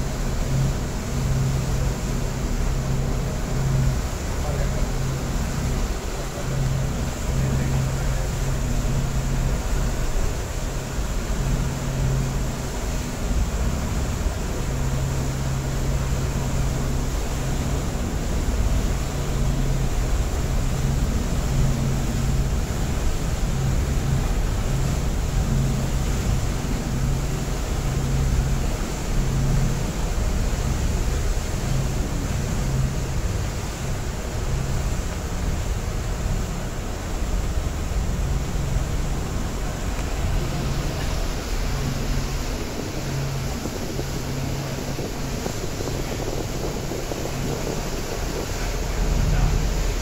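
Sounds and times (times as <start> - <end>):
ferry engine humming: 0.0 - 50.0
wind and water rushing: 0.0 - 50.0.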